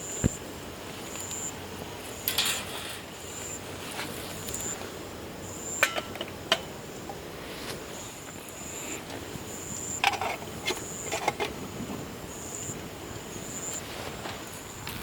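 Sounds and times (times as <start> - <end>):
insect chirping: 0.0 - 15.0
rustle: 0.0 - 15.0.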